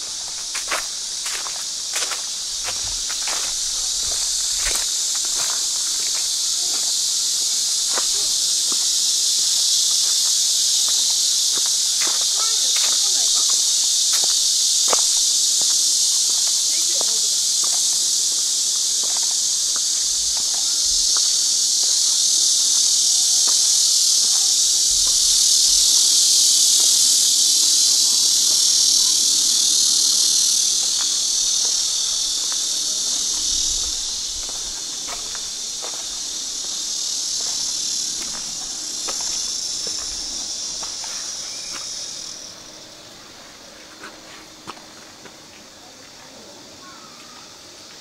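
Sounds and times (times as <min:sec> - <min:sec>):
cicadas buzzing: 0:00.0 - 0:48.0.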